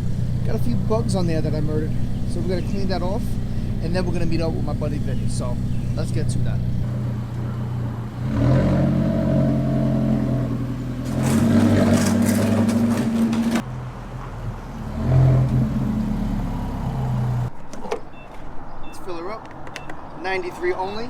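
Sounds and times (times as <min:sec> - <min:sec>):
car engine accelerating: 0:00.0 - 0:17.5.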